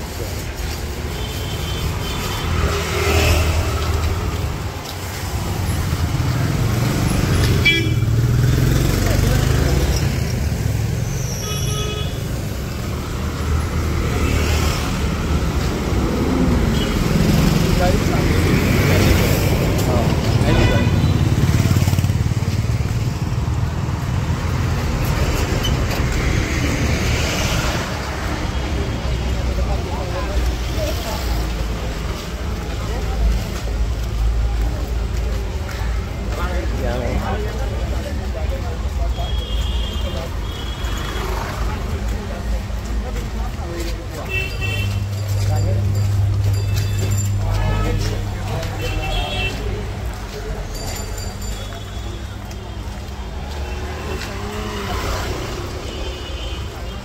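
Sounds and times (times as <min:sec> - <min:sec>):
road traffic engines rumbling: 0:00.0 - 0:57.0.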